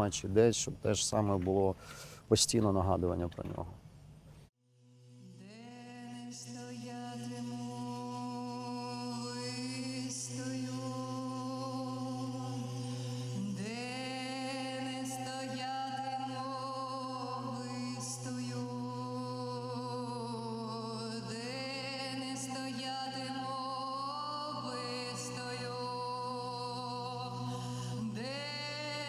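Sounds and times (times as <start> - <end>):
low drone: 4.8 - 29.0
wordless singing with vibrato: 5.2 - 29.0.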